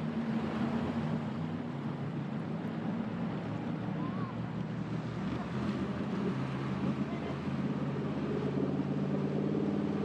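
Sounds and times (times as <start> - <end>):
boat engine humming: 0.0 - 10.0
rush of wind and water: 0.0 - 10.0.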